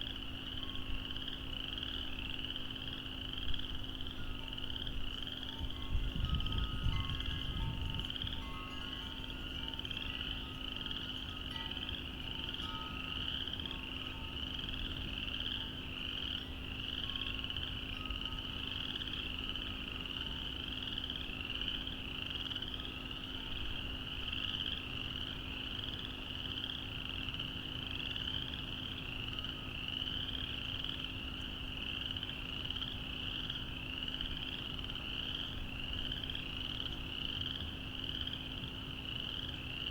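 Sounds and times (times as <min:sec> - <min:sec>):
frogs chorus calling: 0:00.0 - 0:39.9.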